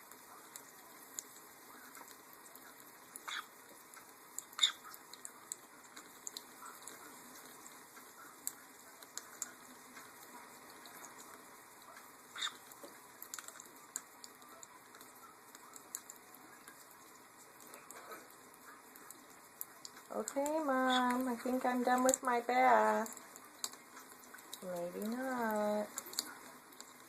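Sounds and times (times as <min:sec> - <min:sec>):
water splashing and pattering: 0:00.4 - 0:27.0.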